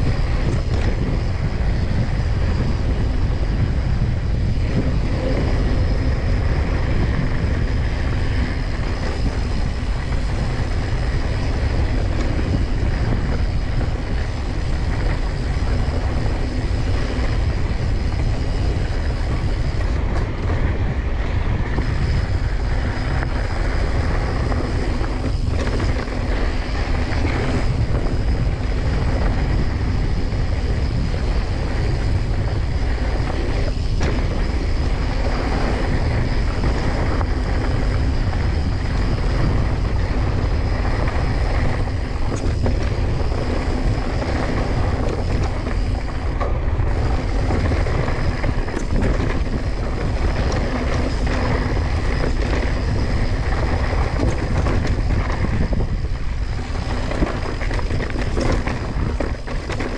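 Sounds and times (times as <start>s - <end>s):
bike clattering: 0.0s - 59.9s
bike tyres crunching over dirt: 0.0s - 59.9s
wind buffeting microphone: 0.0s - 59.9s.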